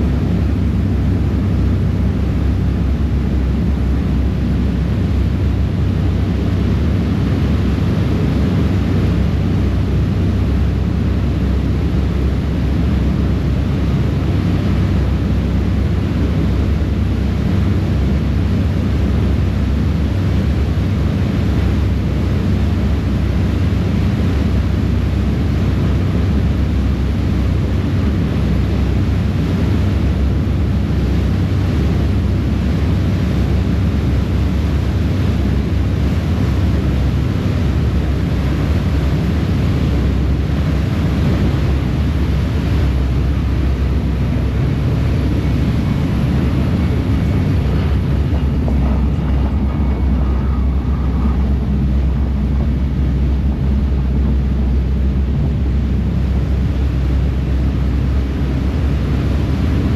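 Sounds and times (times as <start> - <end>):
ferry engines droning: 0.0 - 59.9
water rushing in wake: 0.0 - 59.9
wind noise on microphone: 0.0 - 59.9.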